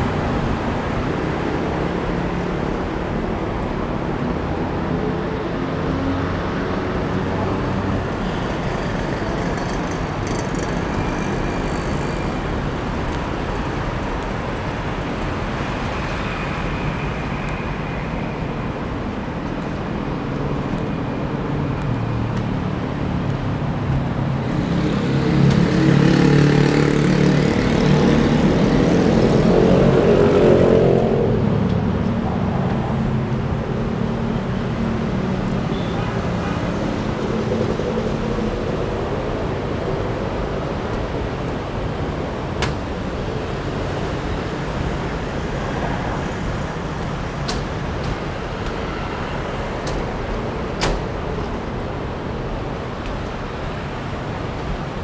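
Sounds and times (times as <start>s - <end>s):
road traffic noise: 0.0s - 55.0s.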